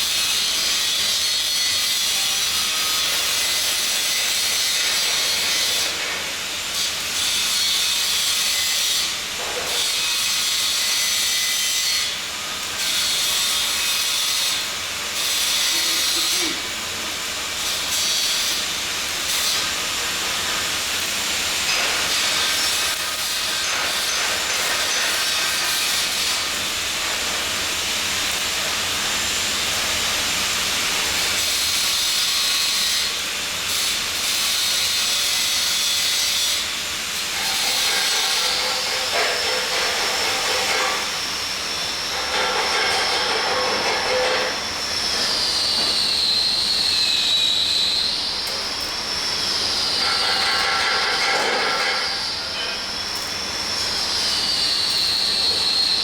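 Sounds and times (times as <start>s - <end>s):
welding hiss and sizzle: 0.0s - 56.0s.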